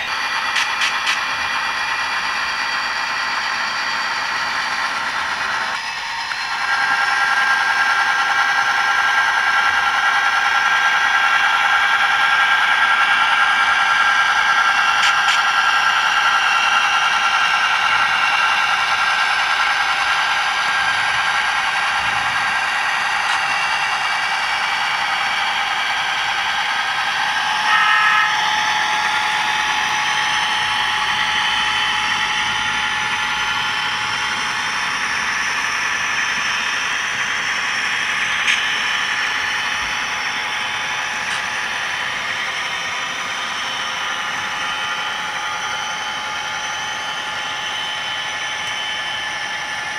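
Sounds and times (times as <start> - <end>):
model diesel engine sound: 0.0 - 49.9.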